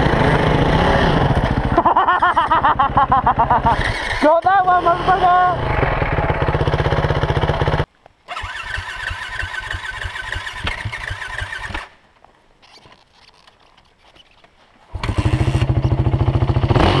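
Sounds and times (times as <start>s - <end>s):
dirt bike engine revving: 0.0s - 11.9s, 14.9s - 17.0s.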